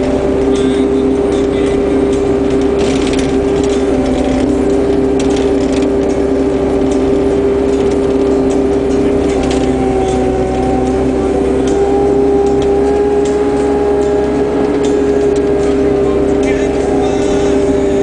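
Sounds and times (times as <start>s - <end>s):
constant whine: 0.0s - 18.0s
diesel engine running: 0.0s - 18.0s.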